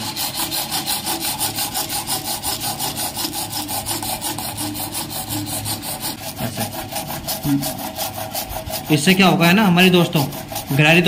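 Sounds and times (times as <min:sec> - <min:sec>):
gears grinding with scraping rhythm: 0:00.0 - 0:11.0.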